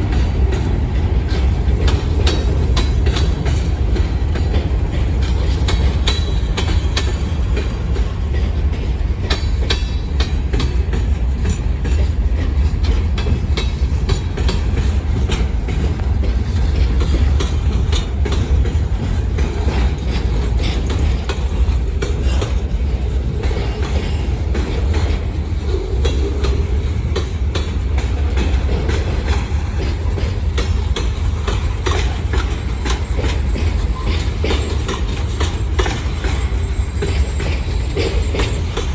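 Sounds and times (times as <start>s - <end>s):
freight train rumbling: 0.0s - 38.9s
wheels clicking over rail joints: 0.0s - 38.9s.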